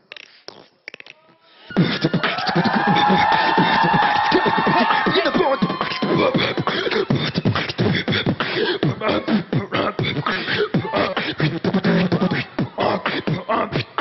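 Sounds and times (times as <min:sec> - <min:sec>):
beatboxing into a microphone: 0:00.0 - 0:14.0.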